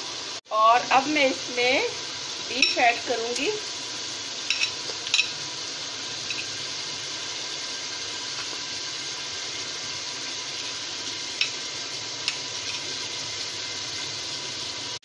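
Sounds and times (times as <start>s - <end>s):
masala sizzling in hot oil: 0.0s - 15.0s.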